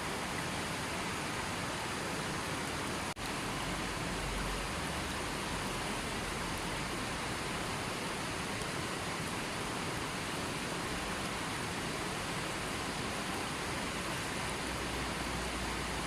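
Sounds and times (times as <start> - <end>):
rushing water hiss: 0.0 - 16.0.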